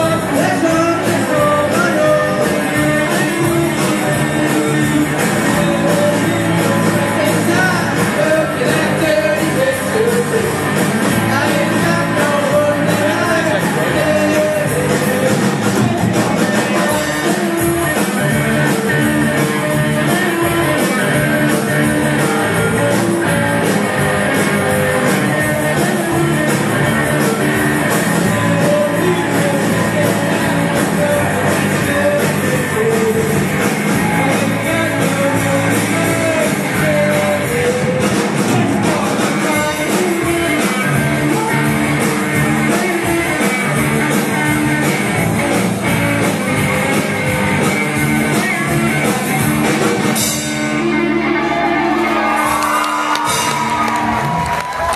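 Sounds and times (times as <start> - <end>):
steady drum beat: 0.0 - 50.8, 52.2 - 54.9
electric guitars: 0.0 - 54.9.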